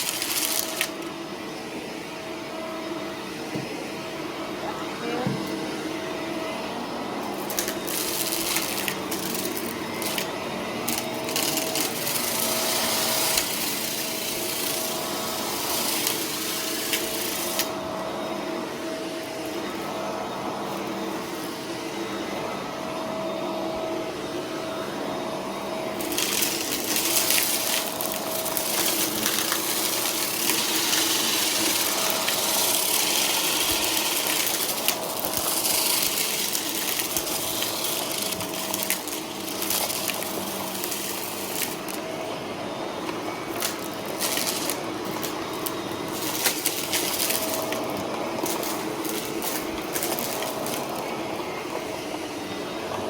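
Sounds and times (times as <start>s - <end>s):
vacuum cleaner motor hum: 0.0s - 53.0s.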